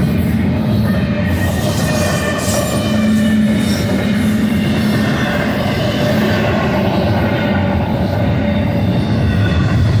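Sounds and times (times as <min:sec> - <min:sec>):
freight train wheels rumbling: 0:00.0 - 0:10.0.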